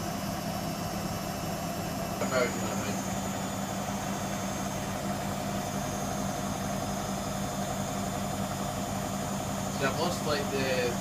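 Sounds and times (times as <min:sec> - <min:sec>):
washer dryer humming: 0:00.0 - 0:11.0.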